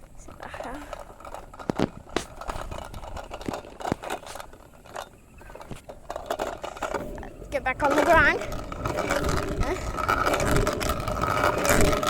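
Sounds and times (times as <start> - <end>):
sharp knocks clicks and scrapes: 0.0 - 12.0.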